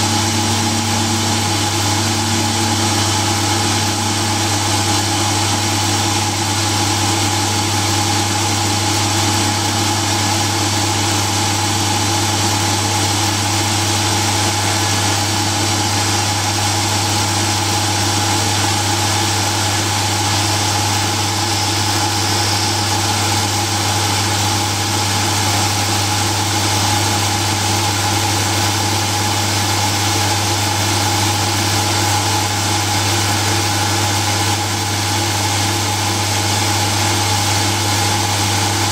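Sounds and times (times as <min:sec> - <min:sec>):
drilling machine humming: 0:00.0 - 0:38.9.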